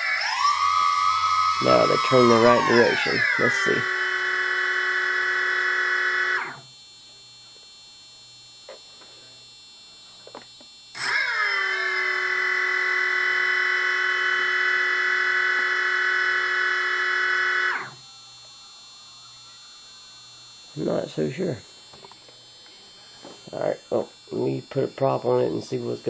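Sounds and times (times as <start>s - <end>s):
electric motors whining: 0.0s - 6.8s, 10.2s - 26.0s.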